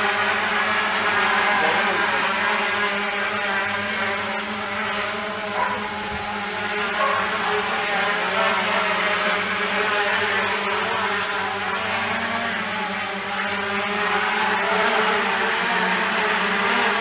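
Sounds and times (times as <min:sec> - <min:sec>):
quadcopter buzzing: 0:00.0 - 0:17.0.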